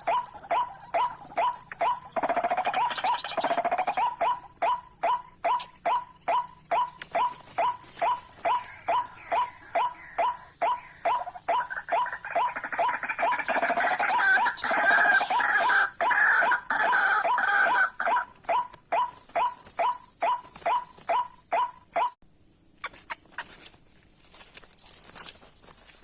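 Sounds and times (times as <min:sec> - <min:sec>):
waterhens croaking calls: 0:00.0 - 0:20.8.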